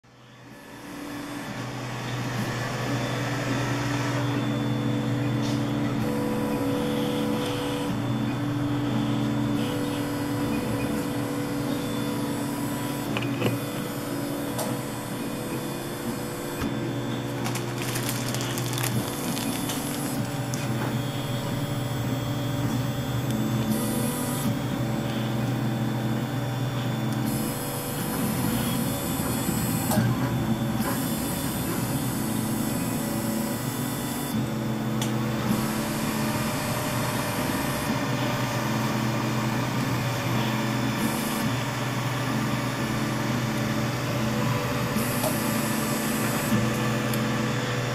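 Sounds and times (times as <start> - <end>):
printer motors whining: 0.1 - 47.9.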